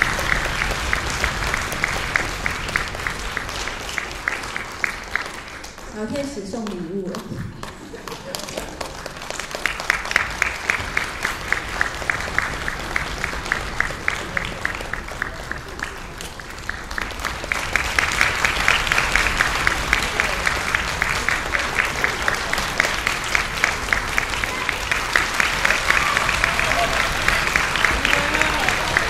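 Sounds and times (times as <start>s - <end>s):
audience clapping: 0.0s - 29.0s.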